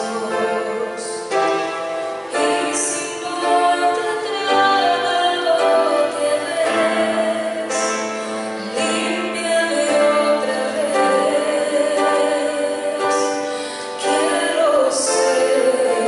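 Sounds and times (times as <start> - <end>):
instrumental accompaniment: 0.0 - 16.0
woman singing: 0.0 - 16.0.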